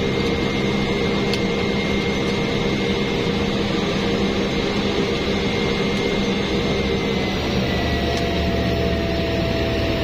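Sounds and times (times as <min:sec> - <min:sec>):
turboprop engine drone: 0:00.0 - 0:10.0.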